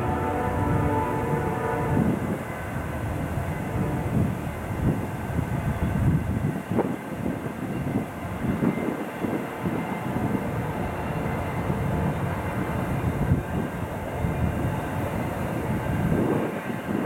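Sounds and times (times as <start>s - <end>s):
steel train wheels rumbling on rail: 0.0s - 17.0s.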